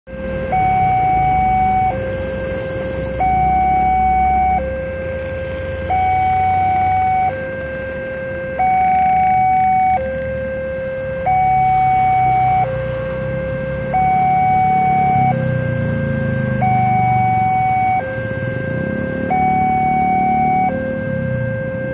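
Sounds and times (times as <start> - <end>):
railroad crossing two-tone alarm: 0.1 - 21.9.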